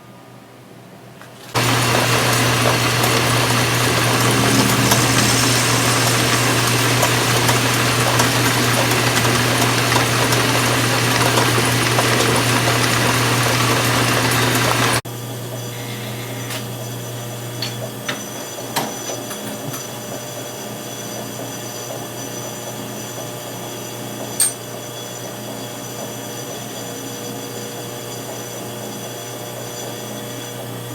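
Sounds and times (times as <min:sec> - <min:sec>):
electric shop machine running: 0:01.5 - 0:30.9.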